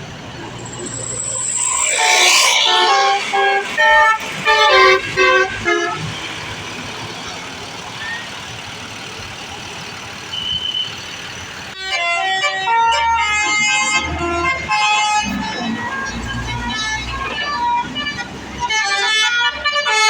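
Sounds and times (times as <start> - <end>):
melodic bus air horn: 0.5 - 8.4, 11.8 - 20.0.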